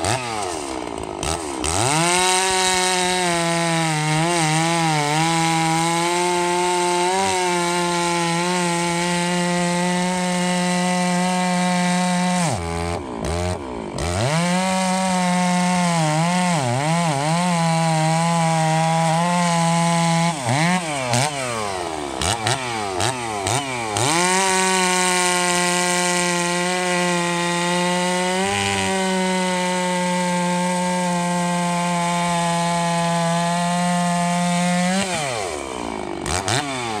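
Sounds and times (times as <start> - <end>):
chainsaw cutting log: 0.0 - 37.0.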